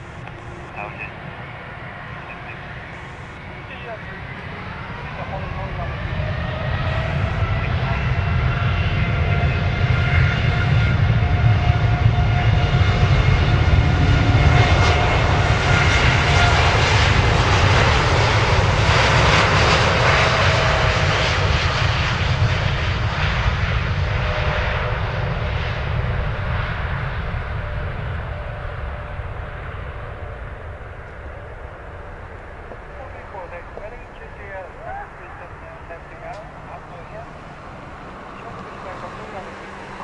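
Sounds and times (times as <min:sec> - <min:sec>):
jet engines whining and rushing: 0:00.0 - 0:40.0.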